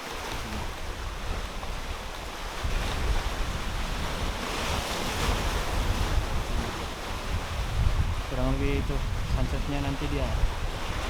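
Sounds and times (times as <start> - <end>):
sea waves on shore: 0.0 - 11.0
wind gusting against microphone: 0.1 - 11.0.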